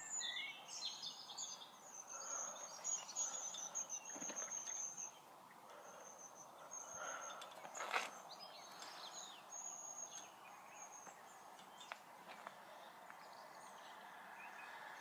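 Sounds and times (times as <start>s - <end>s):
falling bird chirps: 0.0s - 12.0s.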